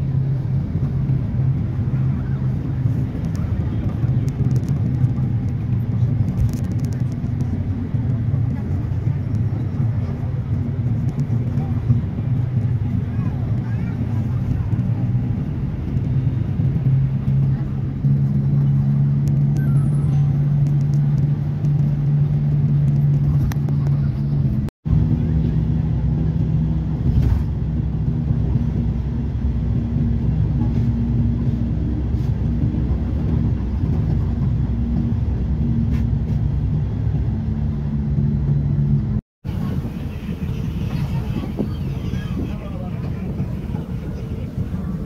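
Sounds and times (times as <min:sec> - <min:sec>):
vehicle engine and road rumble: 0:00.0 - 0:45.0.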